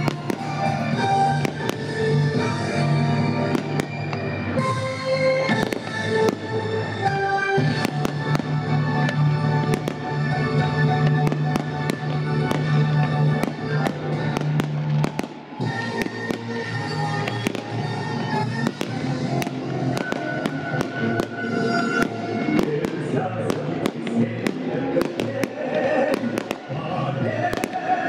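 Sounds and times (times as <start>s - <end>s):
fireworks bangs and crackles: 0.0s - 28.0s
music with sustained tones: 0.0s - 28.0s.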